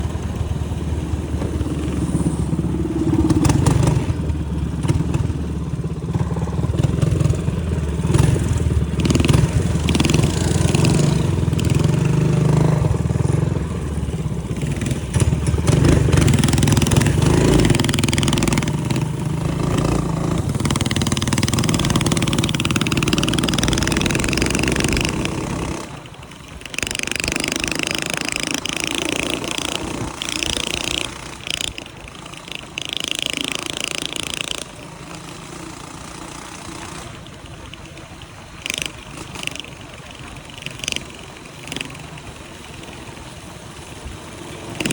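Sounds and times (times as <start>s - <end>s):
minibike engine revving: 0.0s - 44.9s.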